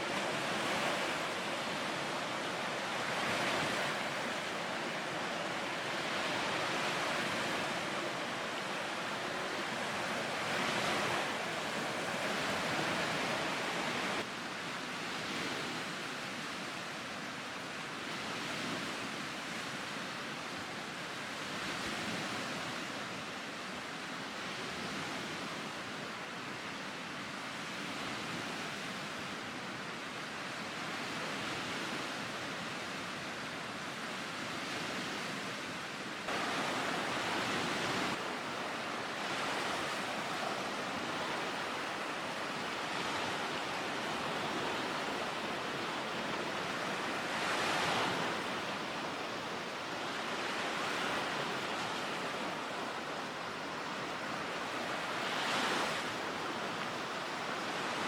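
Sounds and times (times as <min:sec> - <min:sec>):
lake waves washing on shore: 0:00.0 - 0:58.0.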